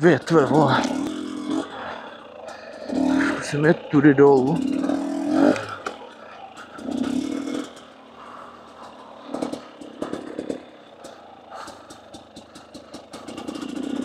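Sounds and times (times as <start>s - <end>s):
motorcycle engine at low revs: 0.0s - 14.0s
sharp clicks and clatter: 0.0s - 14.0s.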